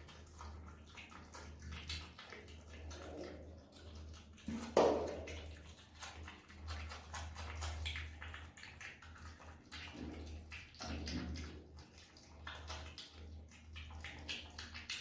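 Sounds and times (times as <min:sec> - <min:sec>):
animal chewing wet smacking: 0:00.0 - 0:15.0.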